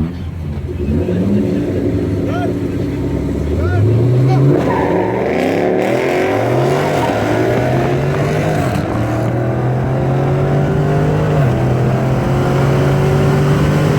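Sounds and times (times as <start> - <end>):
car engine accelerating hard: 0.0 - 13.9.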